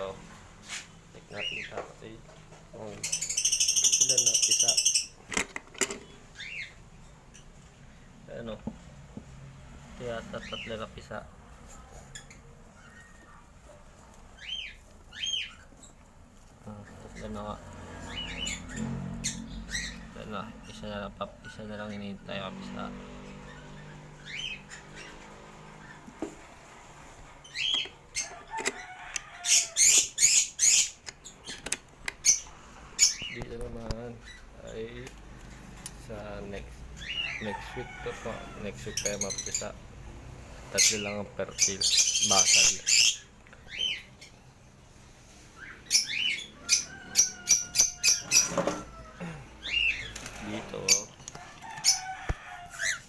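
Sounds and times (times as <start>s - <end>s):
parrots calling: 1.3s - 1.9s, 2.9s - 5.3s, 6.0s - 8.5s, 10.2s - 11.0s, 11.8s - 16.2s, 16.8s - 22.5s, 23.1s - 35.0s, 36.9s - 39.8s, 40.6s - 44.6s, 45.4s - 53.0s.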